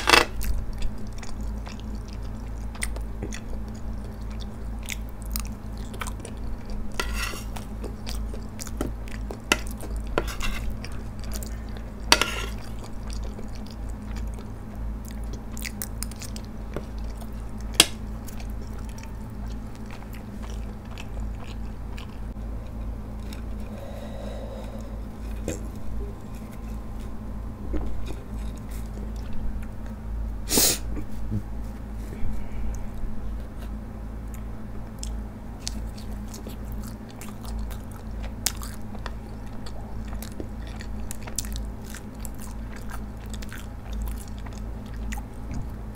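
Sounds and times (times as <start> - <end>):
close chewing of pasta: 0.0 - 30.2, 32.7 - 45.9.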